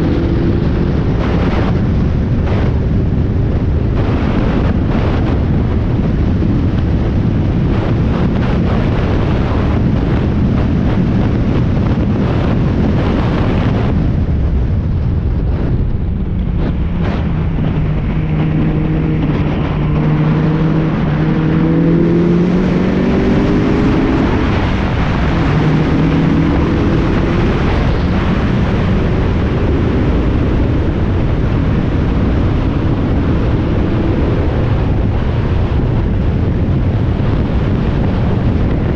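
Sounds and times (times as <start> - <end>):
race car engine: 0.0 - 38.9
wind noise on microphone: 0.0 - 38.9.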